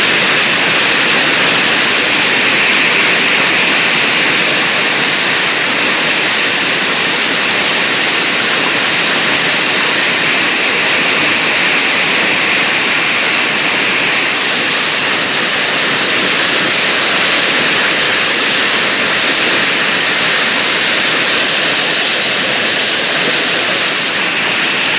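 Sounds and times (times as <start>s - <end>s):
hail and heavy rain pelting: 0.0s - 24.9s.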